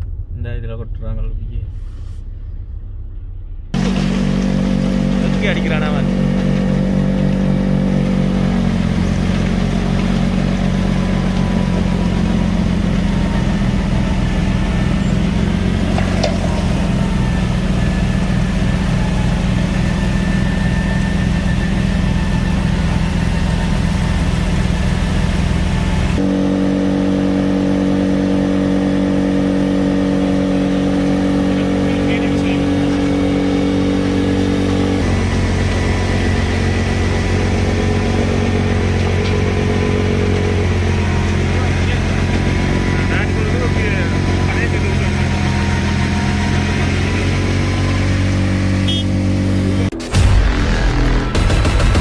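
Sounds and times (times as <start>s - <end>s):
vehicle engine running: 1.8s - 52.0s.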